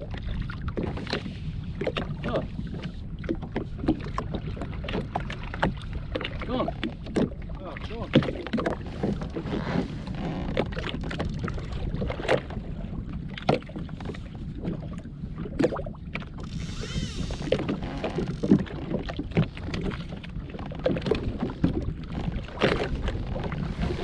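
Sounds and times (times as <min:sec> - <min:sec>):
small waves slapping a hull: 0:00.0 - 0:24.0
steady low rumble: 0:00.0 - 0:24.0.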